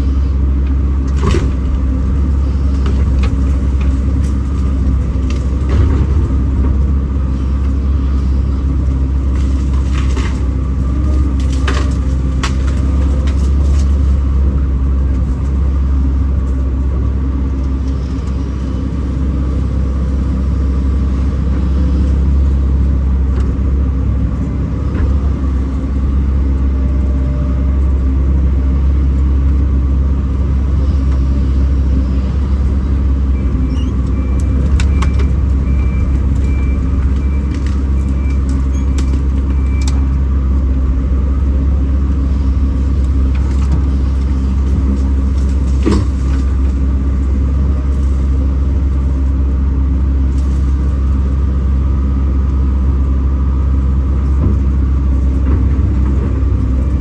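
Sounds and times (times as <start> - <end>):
excavator diesel engine droning: 0.0 - 57.0.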